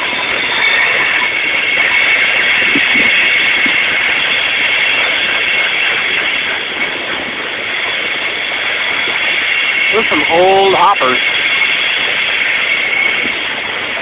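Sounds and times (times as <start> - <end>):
steady high whine: 0.0 - 14.0
train cars rolling: 0.0 - 14.0.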